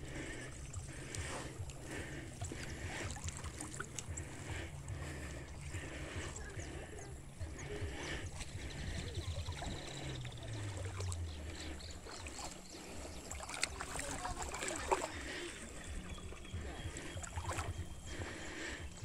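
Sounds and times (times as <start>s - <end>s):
lake water lapping: 0.0s - 19.0s
wind buffeting microphone: 0.0s - 19.0s.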